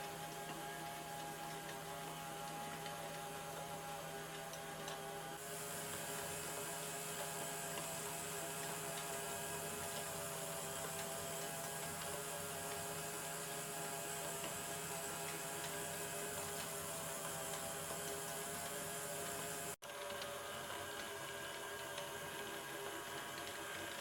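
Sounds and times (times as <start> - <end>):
faint mechanism ticks: 0.0 - 5.1, 5.9 - 24.0
small motors whirring: 0.0 - 20.4.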